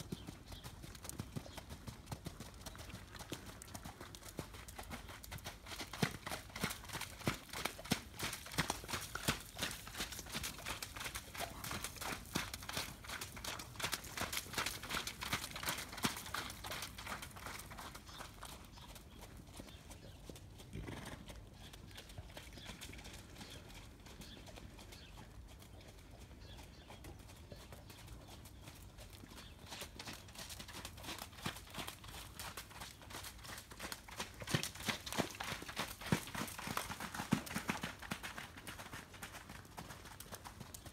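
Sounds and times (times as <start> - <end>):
horse hoofbeats: 0.0 - 40.9.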